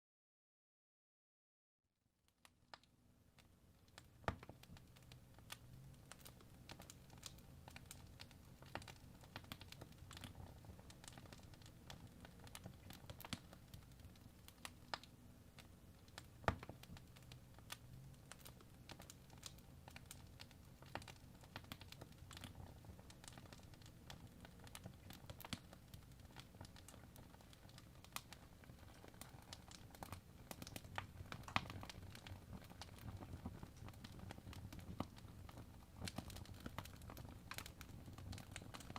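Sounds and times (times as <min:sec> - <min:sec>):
fire crackling and popping: 0:02.4 - 0:38.9
low rumble of fire: 0:03.4 - 0:38.9.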